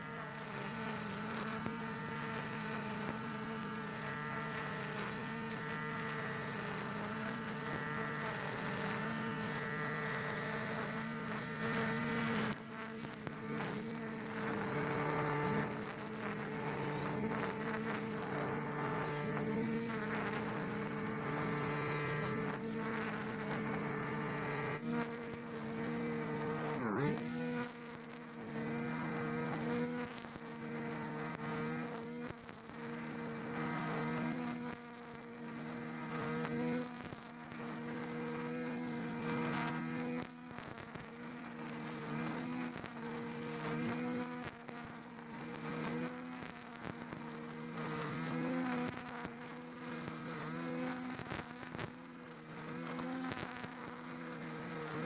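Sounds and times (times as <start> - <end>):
brush cutter engine whine: 0.0 - 55.0.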